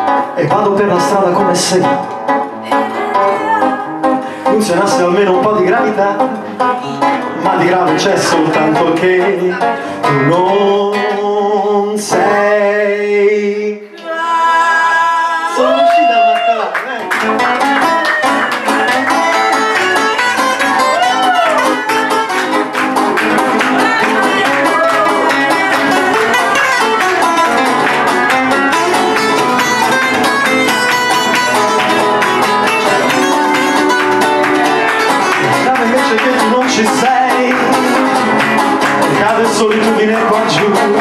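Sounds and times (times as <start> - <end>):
country guitar picking and strumming: 0.0 - 13.8, 17.1 - 41.0.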